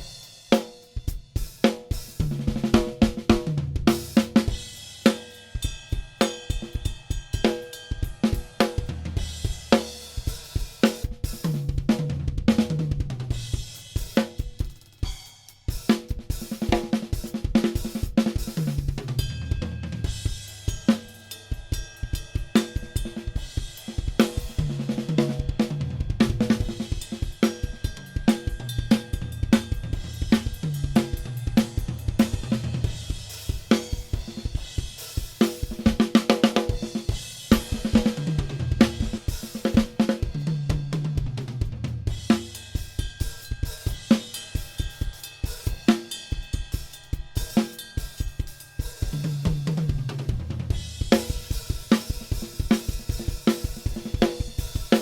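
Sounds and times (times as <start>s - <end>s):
drum kit playing: 0.0s - 55.0s.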